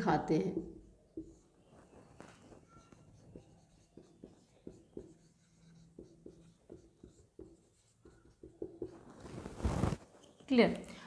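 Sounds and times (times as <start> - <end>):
marker writing on whiteboard: 0.4 - 9.3.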